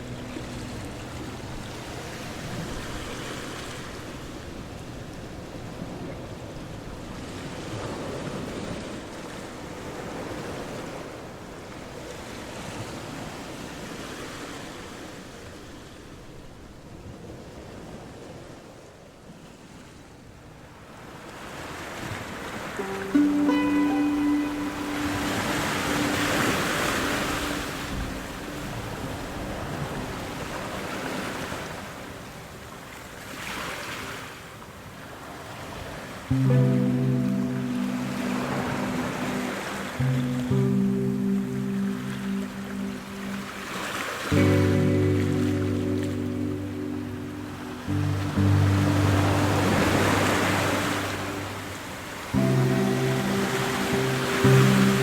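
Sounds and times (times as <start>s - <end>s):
ocean surf breaking waves: 0.0s - 16.2s, 20.8s - 55.0s.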